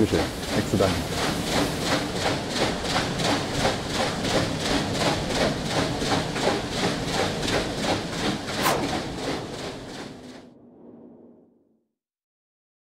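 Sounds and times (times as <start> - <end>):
water wheel clatter and splash: 0.0 - 10.4.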